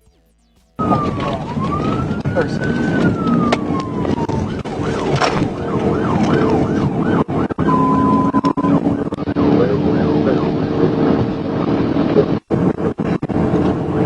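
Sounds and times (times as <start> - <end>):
car engine and road noise: 0.5 - 14.0
police siren yelping: 0.8 - 14.0.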